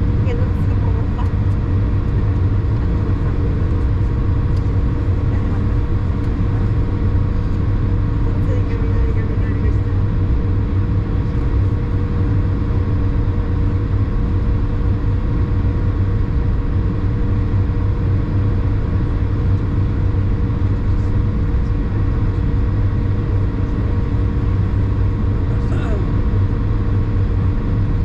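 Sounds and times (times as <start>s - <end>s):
airplane cabin drone: 0.0s - 28.0s.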